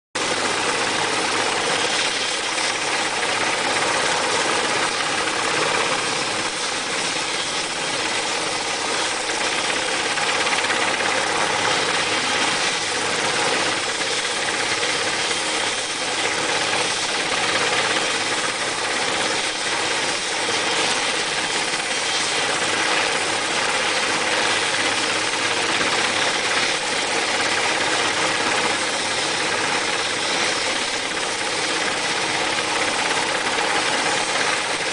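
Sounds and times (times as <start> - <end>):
helicopter engines and rotor: 0.2 - 34.9.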